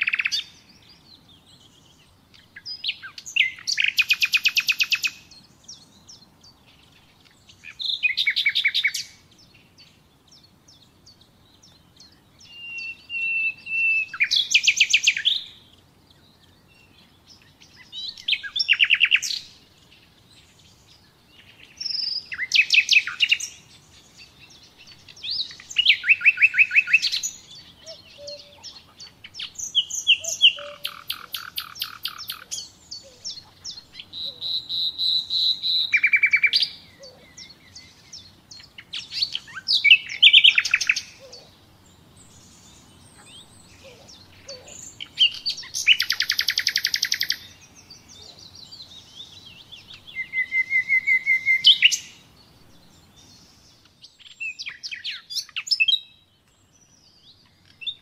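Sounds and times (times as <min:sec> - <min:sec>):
nightingale singing: 0:00.0 - 0:58.0.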